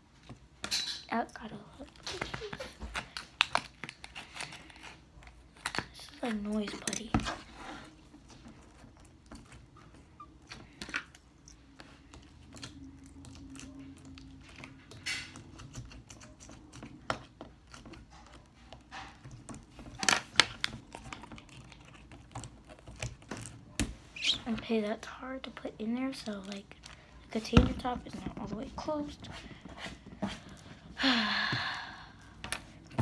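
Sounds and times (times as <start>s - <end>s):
slime squishing: 1.4s - 31.0s.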